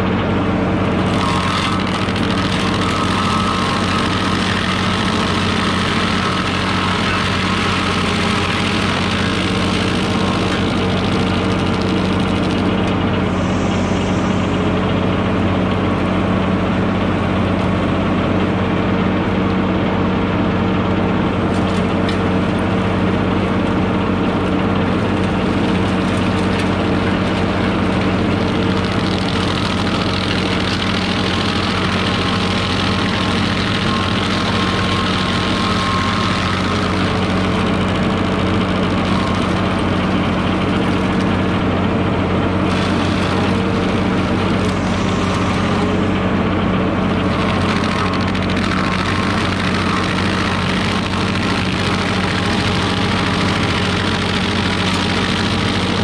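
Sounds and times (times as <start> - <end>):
stump grinder grinding: 0.0 - 56.0
tractor engine running: 0.0 - 56.0.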